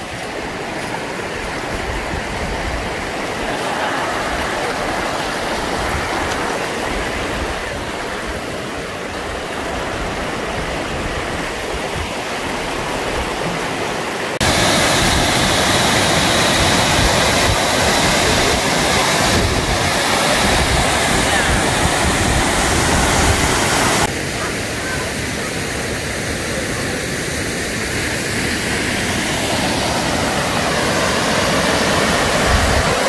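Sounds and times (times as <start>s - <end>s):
river water over rapids: 0.0s - 33.0s
waterfall rushing: 0.0s - 33.0s.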